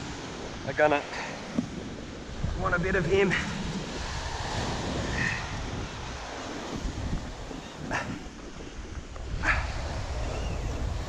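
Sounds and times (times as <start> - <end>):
small waves washing on sand: 0.0 - 11.0
wind buffeting microphone: 0.0 - 11.0.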